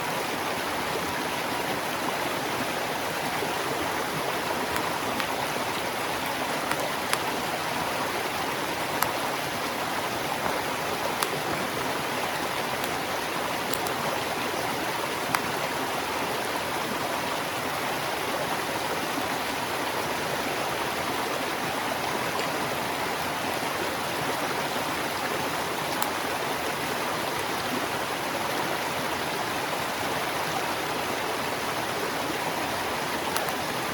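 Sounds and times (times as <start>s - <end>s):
flowing stream rushing: 0.0s - 33.9s.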